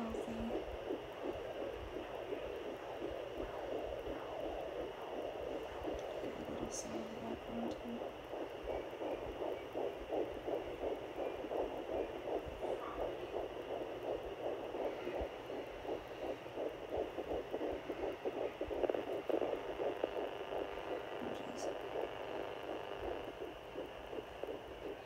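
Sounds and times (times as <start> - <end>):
doppler device hiss: 0.0 - 25.0
fetal heartbeat whooshing pulses: 0.0 - 25.0.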